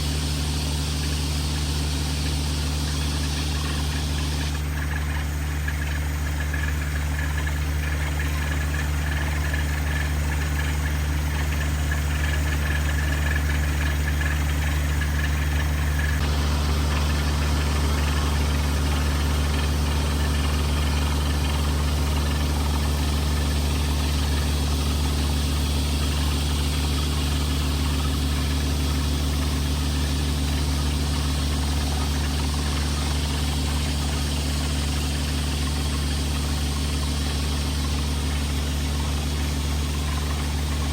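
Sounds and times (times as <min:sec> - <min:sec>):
drilling rig engine humming: 0:00.0 - 0:40.9
hiss: 0:00.0 - 0:40.9.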